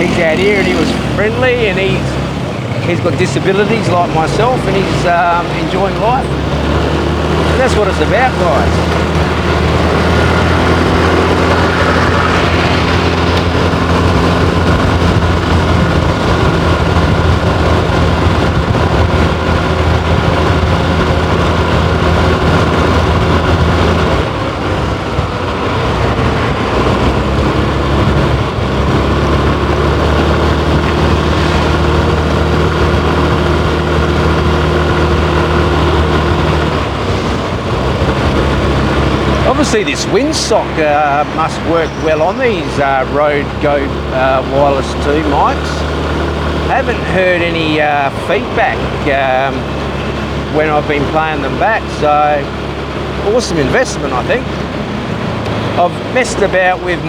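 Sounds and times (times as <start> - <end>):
motorbike engine running: 0.0 - 57.0
road and wind noise: 0.0 - 57.0.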